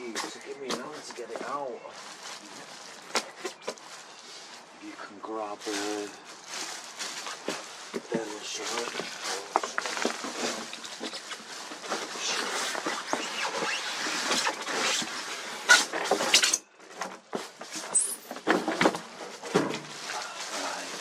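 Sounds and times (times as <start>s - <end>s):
packaging rustling and scraping: 0.7s - 4.7s, 5.7s - 21.0s.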